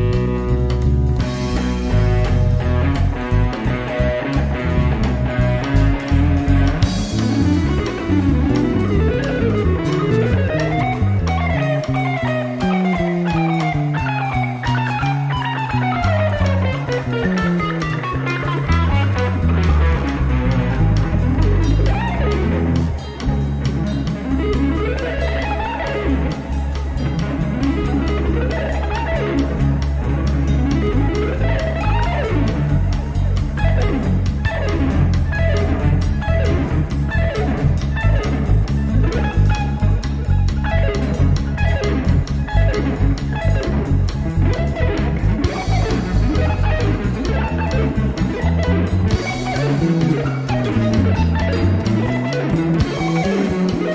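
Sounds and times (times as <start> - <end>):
bass and drum beat: 0.0 - 53.9
electric guitar sliding: 0.0 - 53.9.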